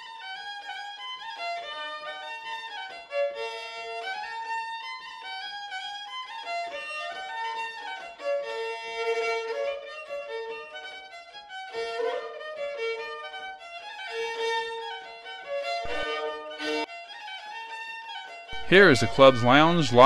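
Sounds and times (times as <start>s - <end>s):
violin melody: 0.0s - 20.0s.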